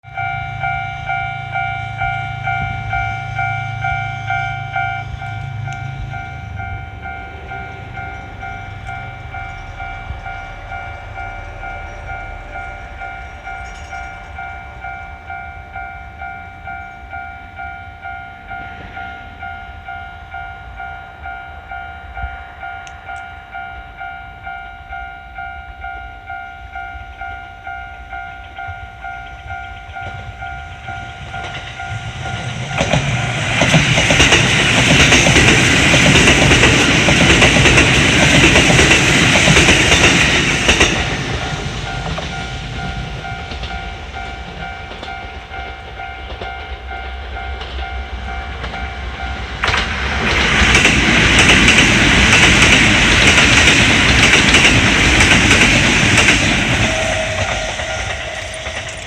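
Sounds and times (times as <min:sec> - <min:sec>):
railroad crossing alarm bell: 0:00.0 - 0:59.0
train rumbling: 0:00.0 - 0:59.0.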